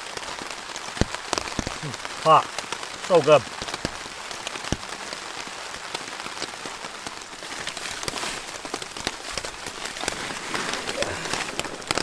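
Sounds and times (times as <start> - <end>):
heavy rain on tarp: 0.0 - 12.0
raindrops tapping: 0.0 - 12.0.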